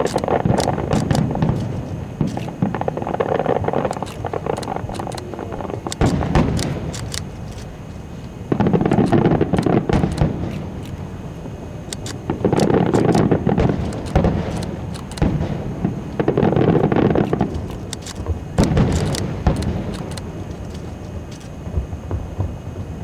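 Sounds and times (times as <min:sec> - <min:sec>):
fireworks bangs and crackles: 0:00.0 - 0:23.0
rumble of firework bursts: 0:00.0 - 0:23.0.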